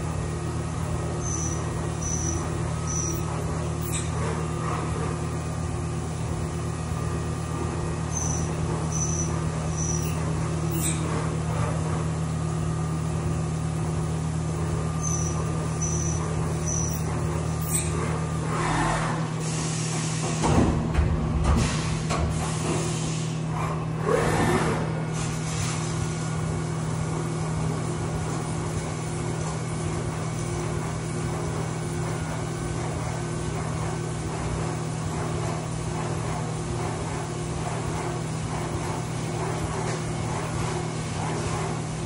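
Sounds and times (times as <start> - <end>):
milling machine spindle hum: 0.0 - 42.0.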